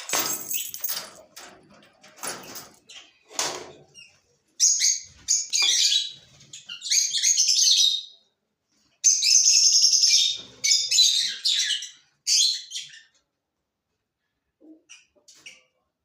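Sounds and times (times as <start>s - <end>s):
cage birds chirping: 0.0s - 16.0s.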